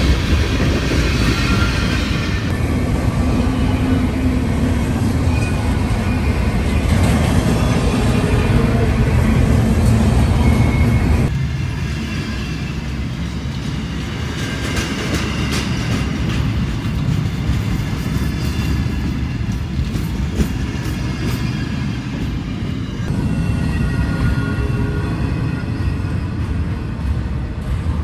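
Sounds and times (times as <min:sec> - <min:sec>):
steel wheels rumbling on rail: 0:00.0 - 0:28.0.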